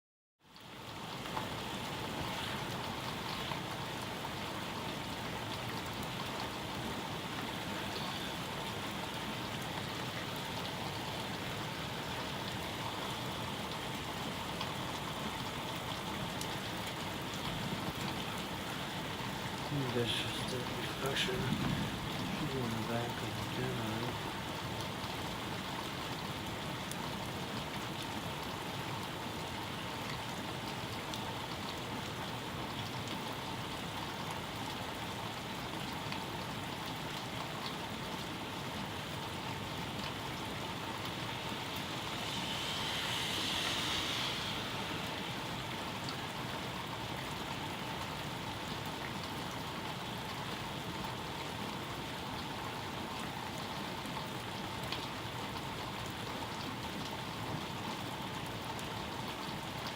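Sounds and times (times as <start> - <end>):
steady rain falling: 0.4 - 59.9.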